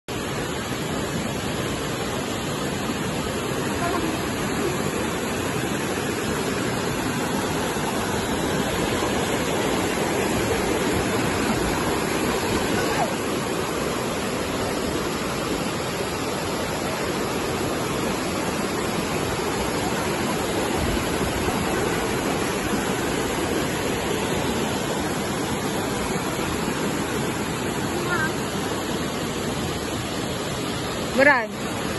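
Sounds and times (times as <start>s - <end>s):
waterfall rushing over boulders: 0.1s - 31.9s.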